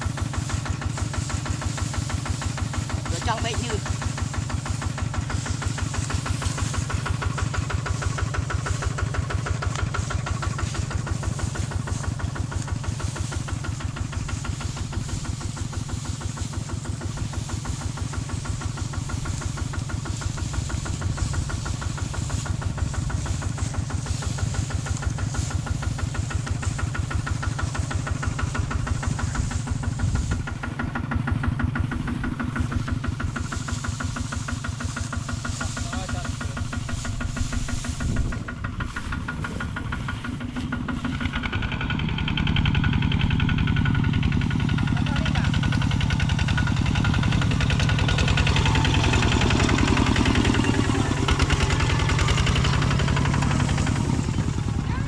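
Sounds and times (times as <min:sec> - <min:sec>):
farm vehicle engine idling: 0:00.0 - 0:55.0.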